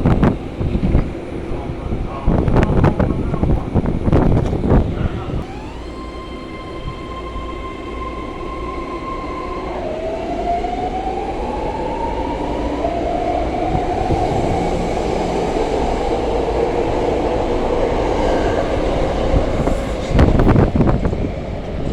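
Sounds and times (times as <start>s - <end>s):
wheels rumbling on rail: 0.0s - 21.9s
train motor whine: 2.4s - 21.9s.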